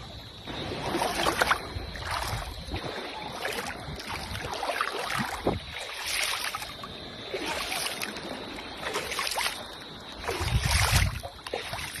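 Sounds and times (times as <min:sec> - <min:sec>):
seawater splashing and lapping: 0:00.0 - 0:12.0.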